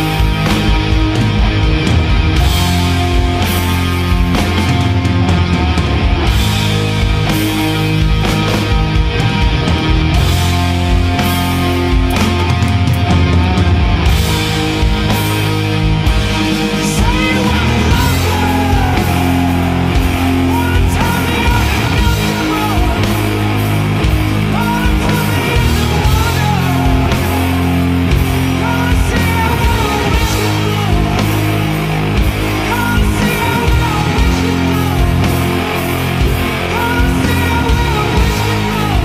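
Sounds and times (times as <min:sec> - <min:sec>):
rock music: 0:00.0 - 0:39.0.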